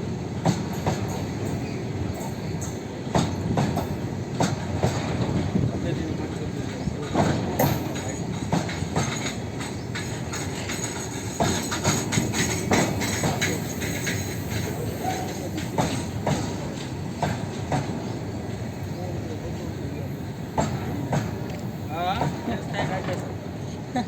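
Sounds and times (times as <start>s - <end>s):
train rumbling on track: 0.0s - 24.0s
wheels clacking over rail joints: 0.4s - 23.5s.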